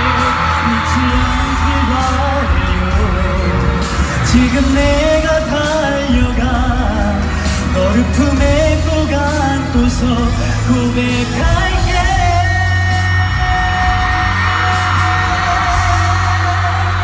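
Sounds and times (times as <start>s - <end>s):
backing track: 0.0s - 17.0s
man singing into microphone: 0.0s - 17.0s.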